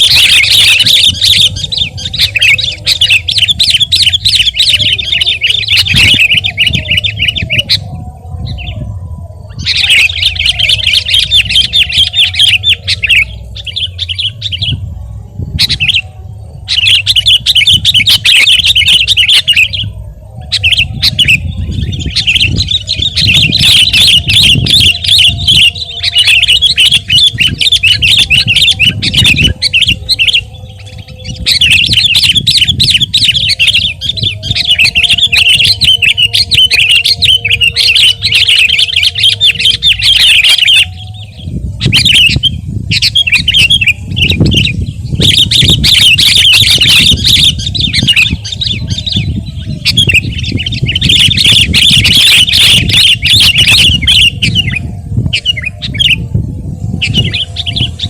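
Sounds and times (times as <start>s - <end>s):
bird singing rapid chattering song: 0.0s - 58.0s.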